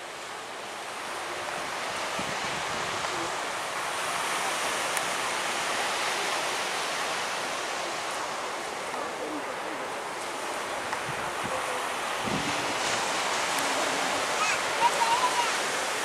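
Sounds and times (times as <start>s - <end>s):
surf washing onto sandy beach: 0.0s - 16.0s.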